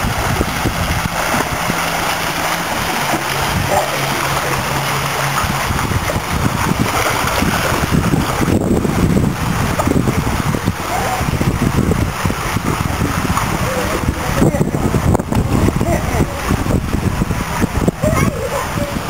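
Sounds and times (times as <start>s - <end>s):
swimmers splashing: 0.0s - 16.6s
steady rushing noise: 0.0s - 19.0s.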